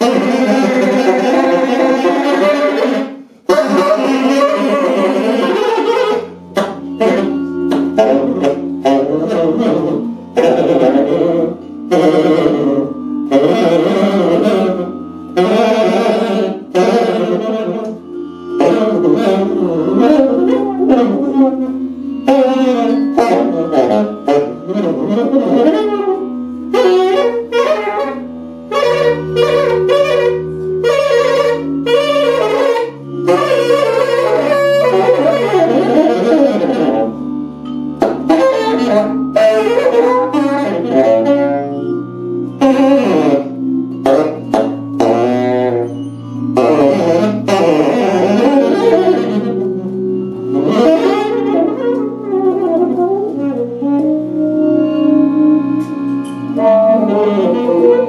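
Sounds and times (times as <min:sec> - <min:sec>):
accordion chords: 0:00.0 - 0:58.0
double bass: 0:00.0 - 0:58.0
tenor saxophone melody: 0:00.0 - 0:58.0.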